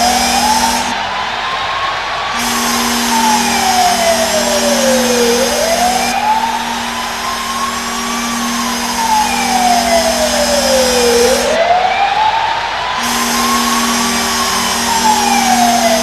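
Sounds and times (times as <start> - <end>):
goal horn: 0.0 - 11.6, 12.8 - 16.0
wailing siren: 0.0 - 16.0.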